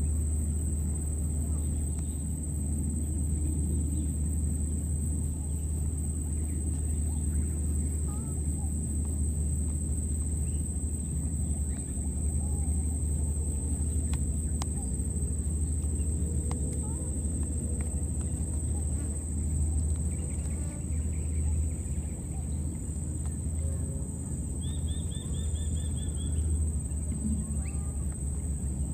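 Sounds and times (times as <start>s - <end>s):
faint chirps: 0.0s - 28.9s
high-pitched whine: 0.0s - 28.9s
low rumble: 0.0s - 28.9s.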